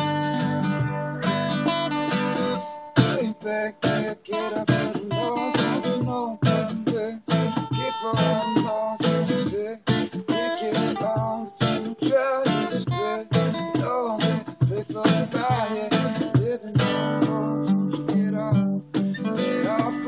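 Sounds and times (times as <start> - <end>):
acoustic guitar strumming reggae: 0.0 - 20.0
person singing: 2.5 - 20.0.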